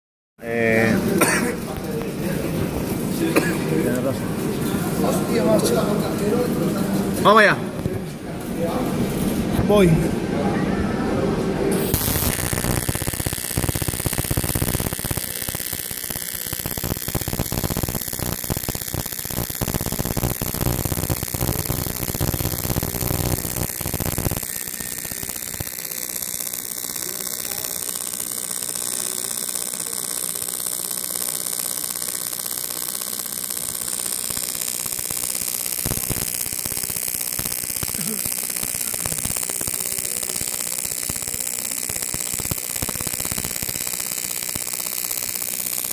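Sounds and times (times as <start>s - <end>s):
welding arc buzzing and hissing: 0.4s - 9.9s, 11.7s - 45.9s.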